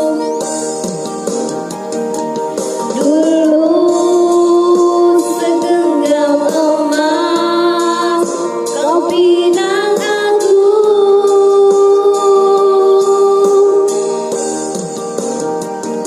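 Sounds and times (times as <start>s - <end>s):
person singing with music: 0.0s - 16.0s.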